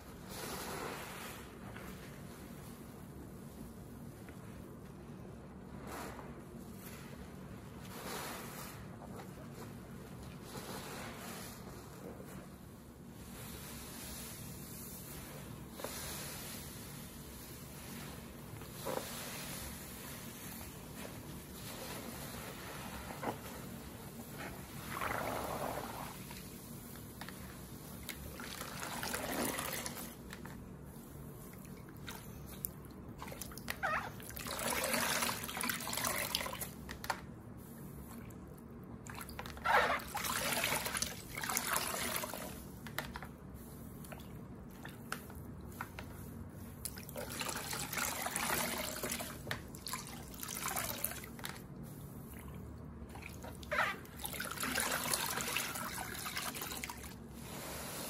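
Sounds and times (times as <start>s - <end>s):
sponge squelching in water: 0.0s - 58.0s.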